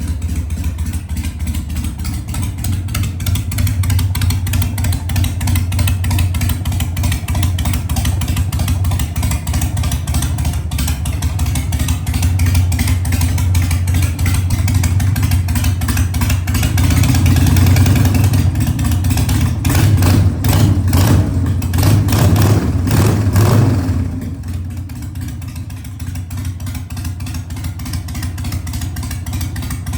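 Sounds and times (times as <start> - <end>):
motorcycle engine idling and revving: 0.0 - 29.9.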